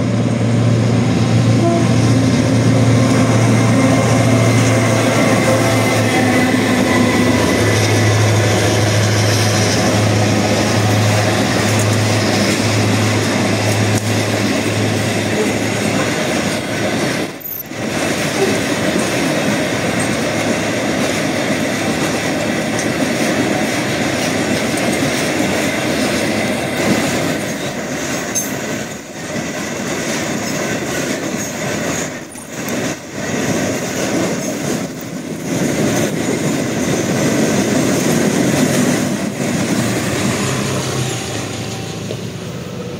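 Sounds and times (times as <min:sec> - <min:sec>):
locomotive engine hum: 0:00.0 - 0:42.9
train wagons rolling over track: 0:00.0 - 0:42.9.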